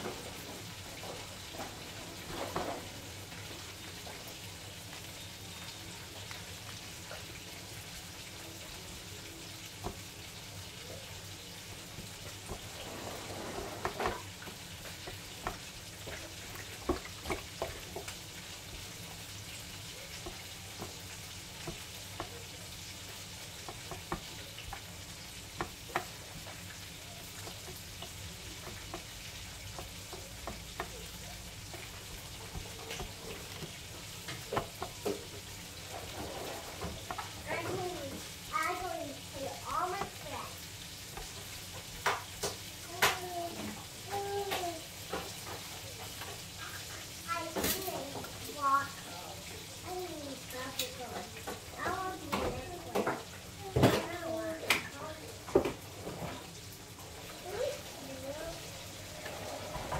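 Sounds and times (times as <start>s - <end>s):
chicken dredged in breading: 0.0s - 59.9s
steady hiss: 6.6s - 52.8s, 55.9s - 59.9s.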